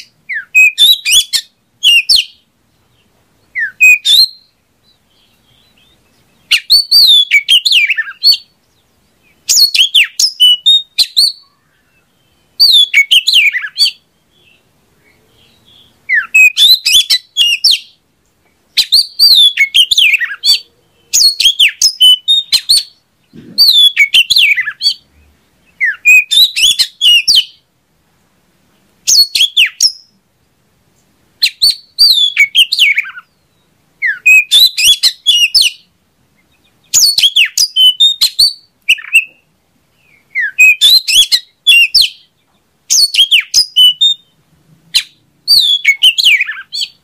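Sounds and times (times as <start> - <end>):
bird singing: 0.0 - 27.7, 29.1 - 30.2, 31.4 - 47.0.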